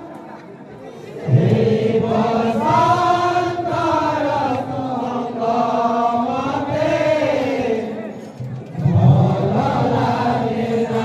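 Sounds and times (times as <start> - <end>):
men chanting together: 1.2 - 8.0, 8.8 - 11.0.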